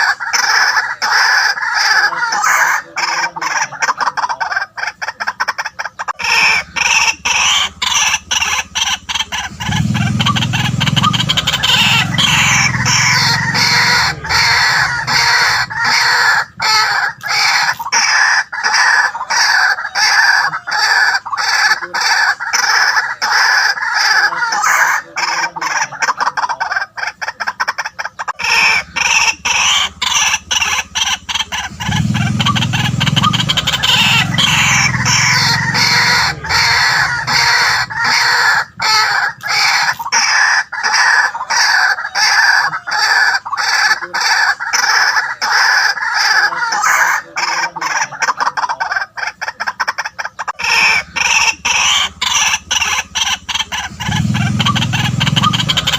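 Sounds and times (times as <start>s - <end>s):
waterhen calling: 0.0s - 55.9s.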